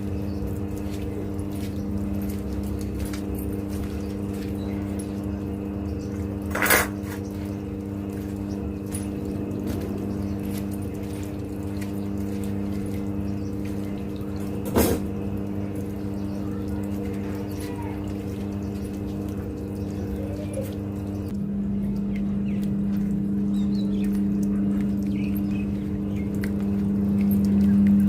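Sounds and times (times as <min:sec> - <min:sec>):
electrical motor hum: 0:00.0 - 0:28.0.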